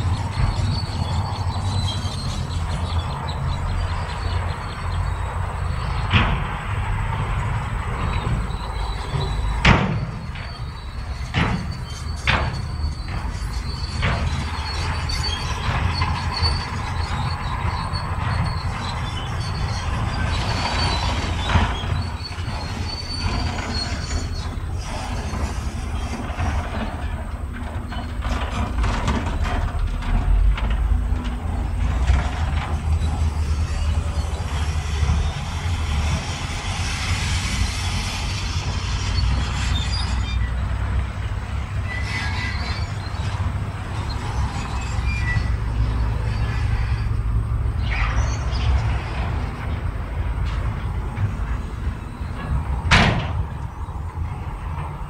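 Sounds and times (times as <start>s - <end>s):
bulldozer diesel engine running: 0.0s - 55.0s
steel tracks squealing and clanking: 0.0s - 55.0s.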